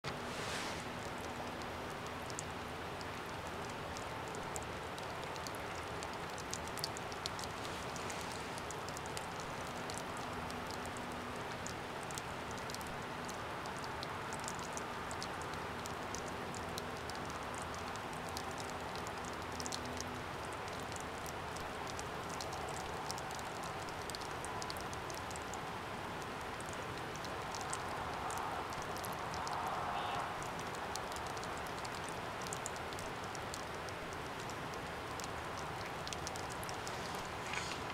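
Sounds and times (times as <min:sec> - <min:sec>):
river water rushing: 0:00.1 - 0:16.3, 0:21.4 - 0:37.9
small ticks and patters: 0:00.1 - 0:37.9.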